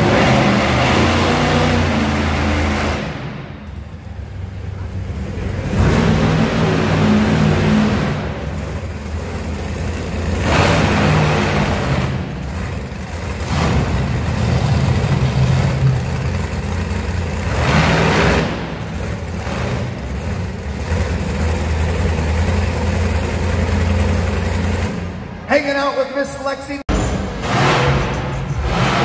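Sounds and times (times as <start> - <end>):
truck engine revving: 0.0 - 25.5, 26.9 - 29.0.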